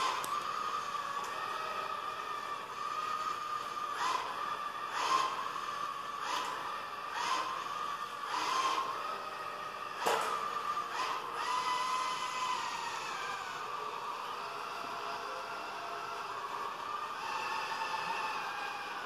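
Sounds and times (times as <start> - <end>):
robot vacuum motor whining: 0.0 - 19.0.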